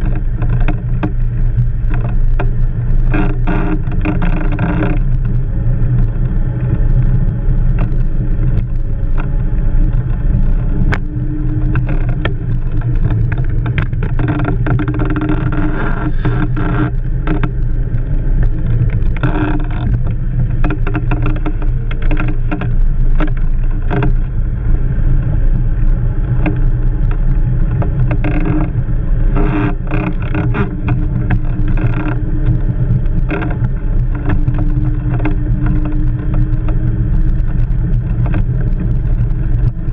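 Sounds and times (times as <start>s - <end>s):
wind and rolling wheels rumble: 0.0s - 39.9s.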